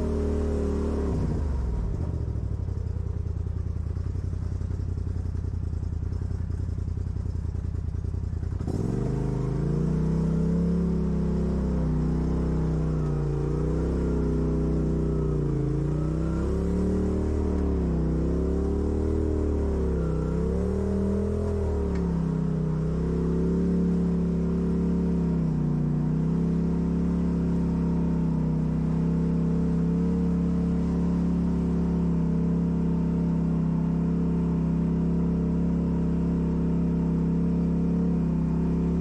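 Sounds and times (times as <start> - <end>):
off-road vehicle engine revving: 0.0 - 2.6, 8.4 - 39.0.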